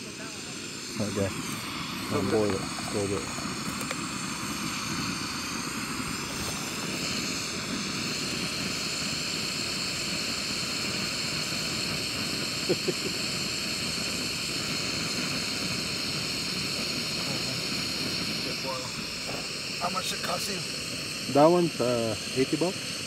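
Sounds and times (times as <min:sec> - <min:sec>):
gas burner hissing roar: 0:00.0 - 0:23.0.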